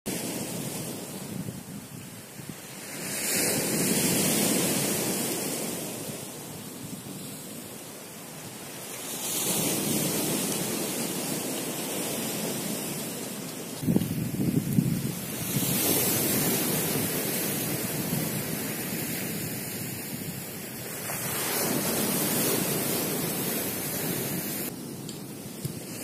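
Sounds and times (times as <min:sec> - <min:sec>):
waves breaking on rocky shore: 0:00.1 - 0:26.0.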